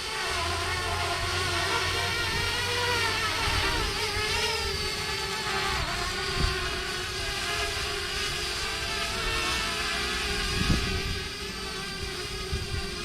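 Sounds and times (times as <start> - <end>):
drone propellers whining: 0.0 - 13.0
wind rumble on microphone: 0.6 - 13.0.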